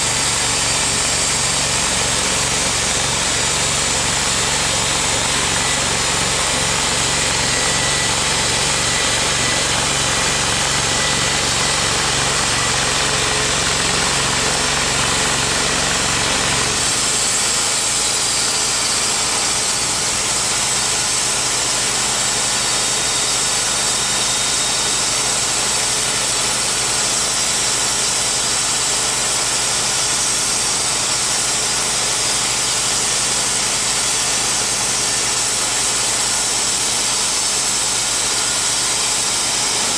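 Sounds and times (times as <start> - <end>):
band saw blade cutting log: 0.0 - 39.9
sawmill engine running: 0.0 - 39.9.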